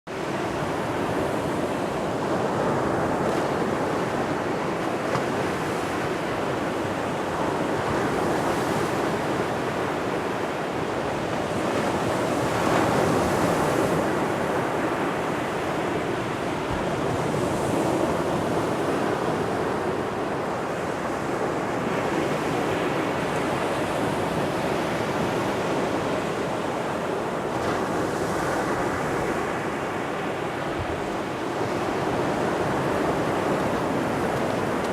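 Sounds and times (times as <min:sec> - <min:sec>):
surf breaking on beach: 0:00.1 - 0:34.9
wind buffeting microphone: 0:00.2 - 0:34.9.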